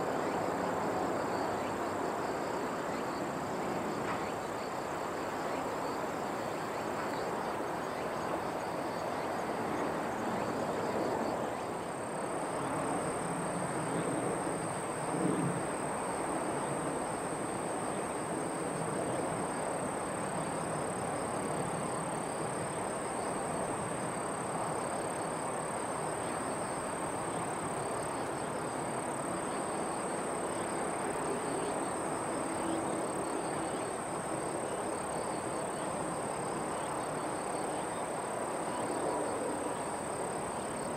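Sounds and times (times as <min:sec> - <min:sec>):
outdoor background rush: 0:00.0 - 0:40.9.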